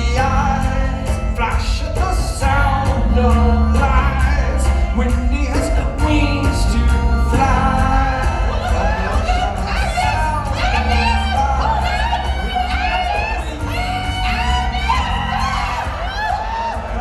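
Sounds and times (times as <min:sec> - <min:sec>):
keyboard with bass and beat: 0:00.0 - 0:17.0
voices singing: 0:00.0 - 0:17.0.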